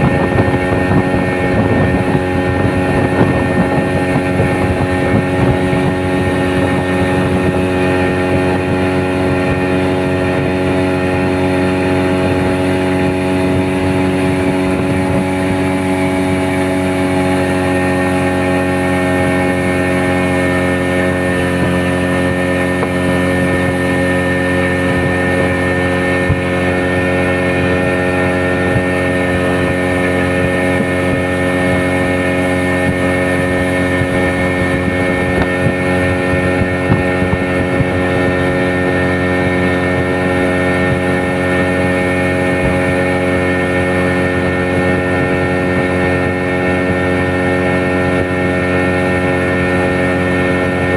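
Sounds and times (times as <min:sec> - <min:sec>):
small boat engine running: 0:00.0 - 0:50.9.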